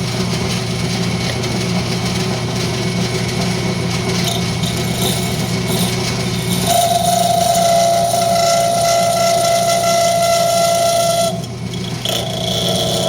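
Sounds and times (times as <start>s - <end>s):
wood lathe motor hum: 0.0s - 13.0s.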